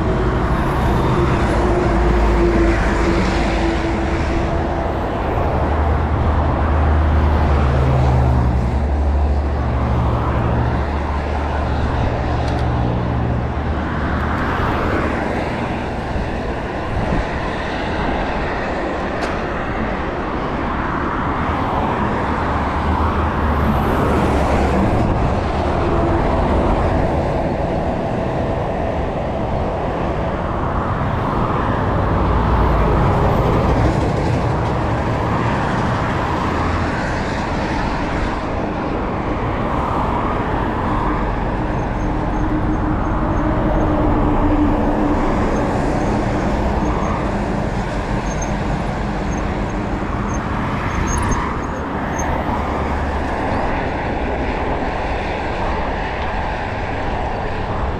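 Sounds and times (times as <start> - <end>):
highway traffic rushing: 0.0 - 57.9
wind rumble on microphone: 0.0 - 57.9.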